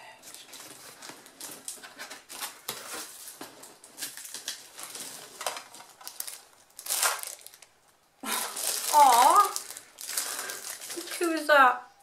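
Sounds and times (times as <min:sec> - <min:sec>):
packing peanuts rustling in a box: 0:00.3 - 0:11.5.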